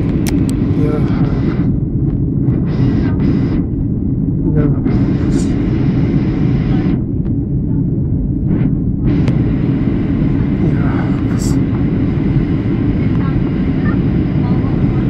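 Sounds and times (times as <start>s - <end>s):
jet airliner cabin rumble: 0.0s - 15.0s.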